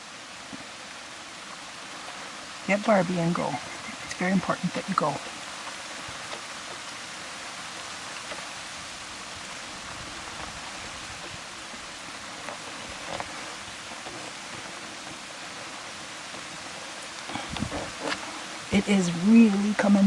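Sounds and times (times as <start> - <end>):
heavy rain pattering: 0.0 - 20.0.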